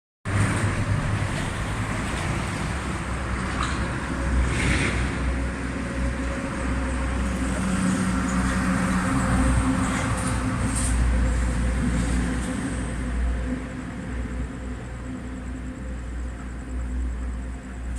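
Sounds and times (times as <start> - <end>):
low traffic rumble: 0.3 - 17.9.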